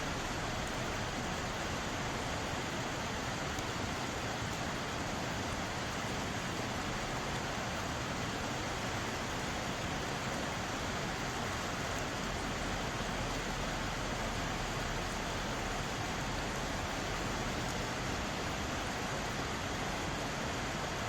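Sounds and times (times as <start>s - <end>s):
stream water flowing over rocks: 0.0s - 21.0s.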